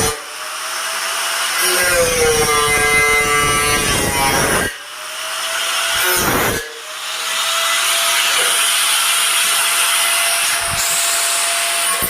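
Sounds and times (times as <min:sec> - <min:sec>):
angle grinder whining: 0:00.0 - 0:12.0
grinder grinding workpiece: 0:00.0 - 0:12.0.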